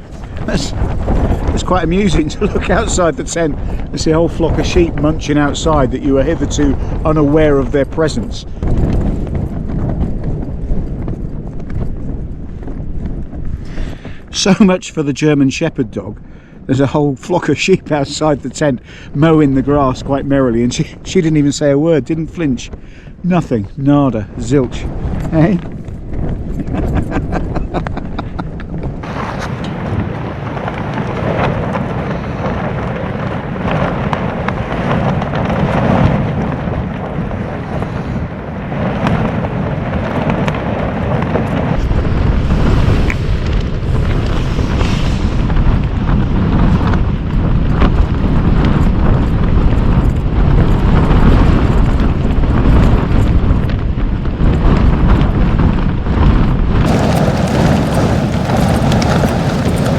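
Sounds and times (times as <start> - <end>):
storm wind buffeting tent: 0.0 - 59.9
wind rumbling on microphone: 0.0 - 59.9.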